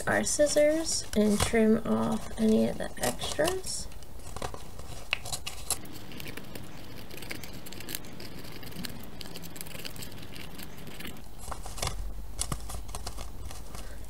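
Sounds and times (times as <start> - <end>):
scissors snipping paper: 0.3 - 14.0.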